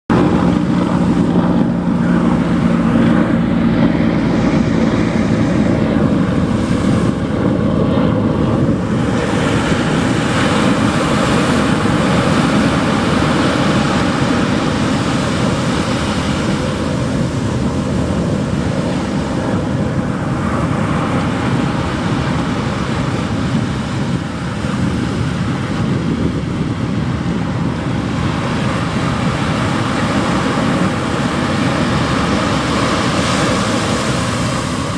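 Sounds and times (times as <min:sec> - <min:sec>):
low droning hum: 0:00.1 - 0:34.9
surf washing onto shore: 0:00.1 - 0:34.9
wind on microphone: 0:00.1 - 0:34.9.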